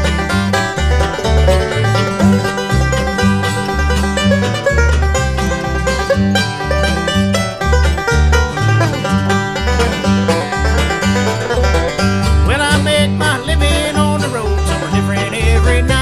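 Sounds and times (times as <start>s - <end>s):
banjo picking: 0.0s - 16.0s
guitar: 0.0s - 16.0s
walking bass: 0.0s - 16.0s.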